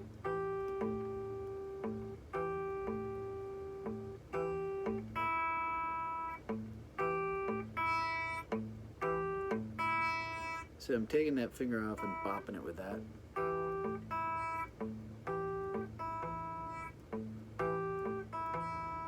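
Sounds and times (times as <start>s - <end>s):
fingerpicked rockabilly guitar: 0.0s - 19.0s.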